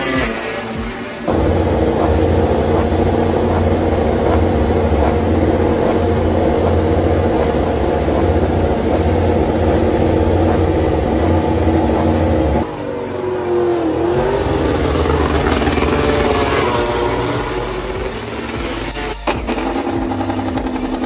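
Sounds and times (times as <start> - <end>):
motorcycle engine idling: 1.3 - 12.6, 14.4 - 21.0.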